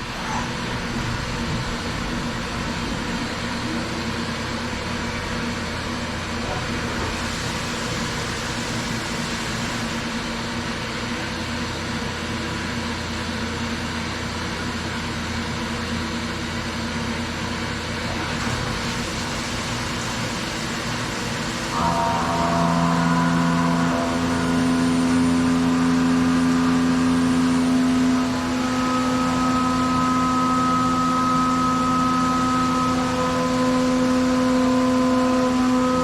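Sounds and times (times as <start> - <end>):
milling machine hum: 0.0 - 36.0.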